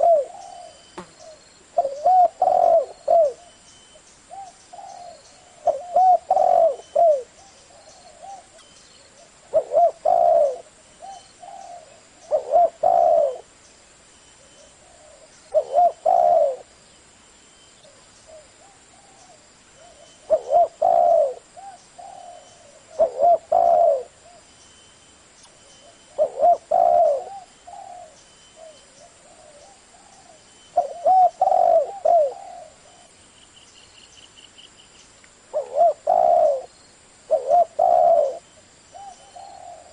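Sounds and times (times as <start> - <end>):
dove cooing: 0.0 - 3.6, 4.3 - 13.5, 14.4 - 16.8, 17.8 - 24.5, 25.8 - 33.2, 35.5 - 36.7, 37.3 - 39.9.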